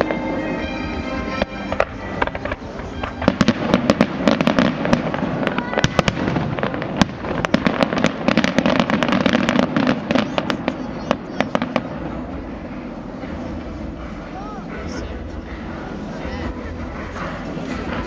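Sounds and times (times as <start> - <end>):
fireworks cracking and banging: 0.0 - 18.0.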